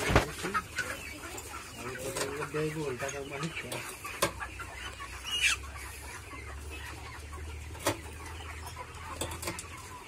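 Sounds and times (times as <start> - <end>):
hens clucking: 0.0 - 10.0.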